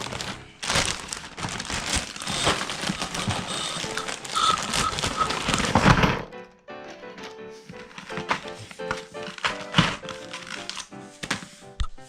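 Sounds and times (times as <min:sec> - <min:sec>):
plastic bag crinkling: 0:00.0 - 0:06.3, 0:07.7 - 0:11.6.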